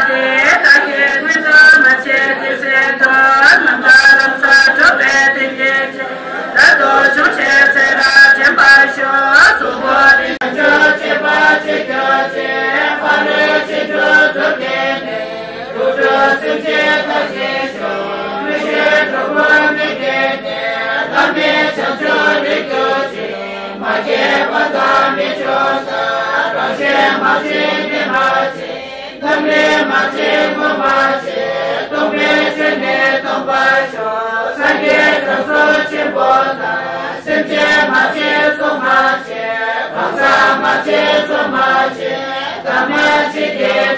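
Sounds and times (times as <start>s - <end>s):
men chanting prayers: 0.0s - 43.9s.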